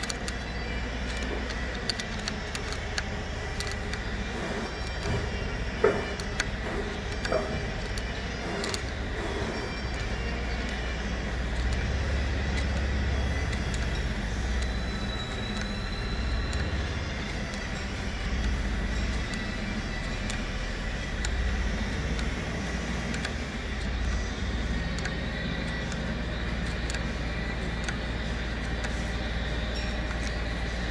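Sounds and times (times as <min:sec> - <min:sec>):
lathe running: 0:00.0 - 0:30.9.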